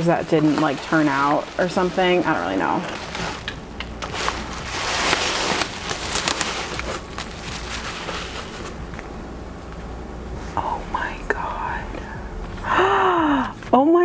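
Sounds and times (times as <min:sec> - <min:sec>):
bubble wrap crinkling: 0:00.0 - 0:13.8.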